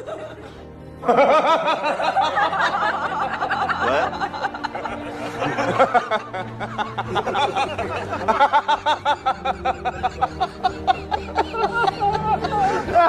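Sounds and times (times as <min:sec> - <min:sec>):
background music low notes: 0:00.0 - 0:13.0
rapid rhythmic laughing: 0:00.0 - 0:13.0.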